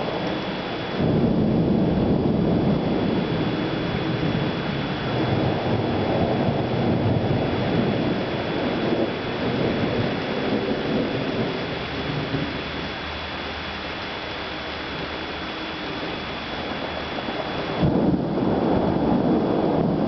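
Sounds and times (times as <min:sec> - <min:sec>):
rain hissing: 0:00.0 - 0:20.0
rolling thunder: 0:00.0 - 0:20.0.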